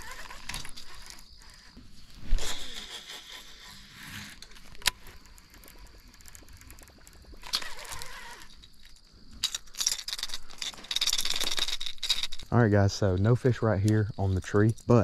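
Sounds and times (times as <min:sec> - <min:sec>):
fishing reel ticking: 0:00.0 - 0:15.0.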